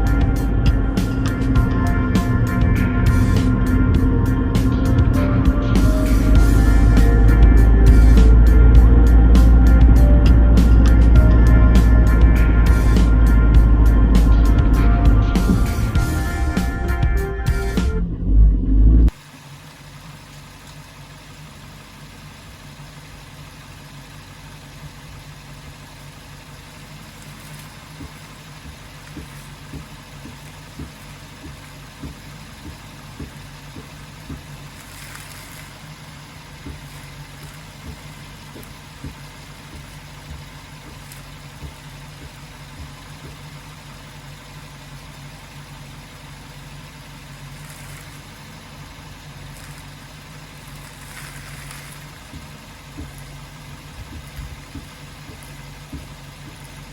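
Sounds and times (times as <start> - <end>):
car engine running: 0.0 - 56.9.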